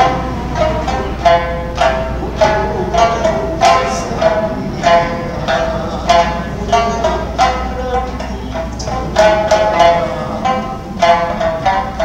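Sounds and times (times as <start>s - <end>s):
plucked string instrument folk tune: 0.0s - 12.0s.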